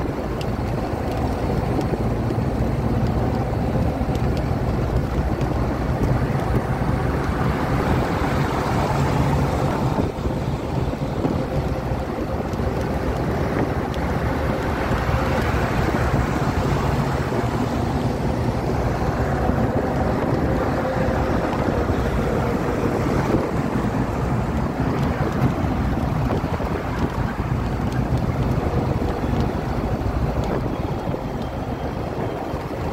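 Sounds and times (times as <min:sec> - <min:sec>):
rushing wind: 0:00.0 - 0:32.9
tyre roar on asphalt: 0:00.0 - 0:32.9.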